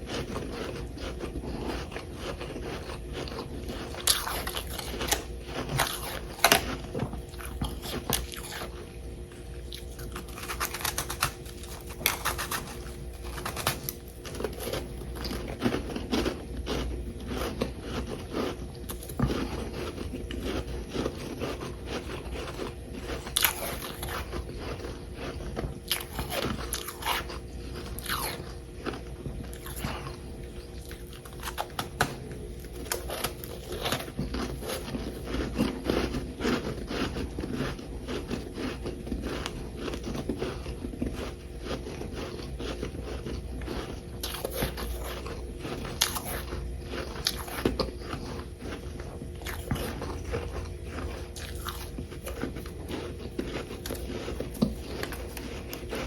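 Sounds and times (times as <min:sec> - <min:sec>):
crunchy biting and chewing: 0:00.0 - 0:56.0.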